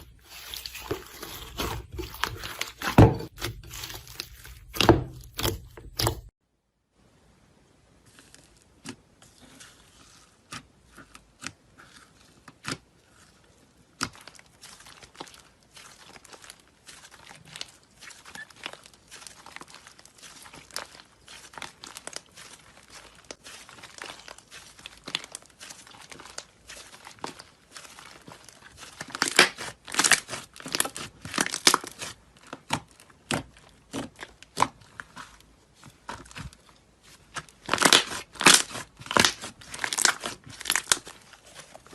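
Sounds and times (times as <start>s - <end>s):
slime squishing with crackles and pops: 7.9s - 41.9s.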